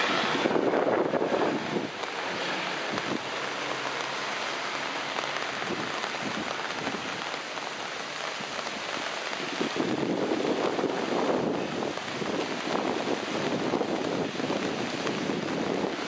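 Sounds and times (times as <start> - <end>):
rain on paving and grass: 0.0 - 16.0.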